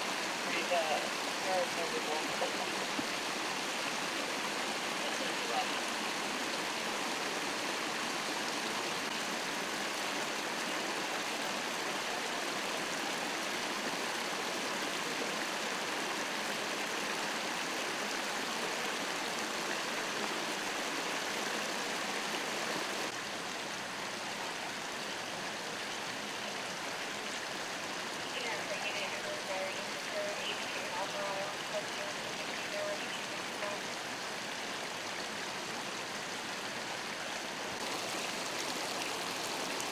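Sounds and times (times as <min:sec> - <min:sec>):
water rushing along road: 0:00.0 - 0:39.9.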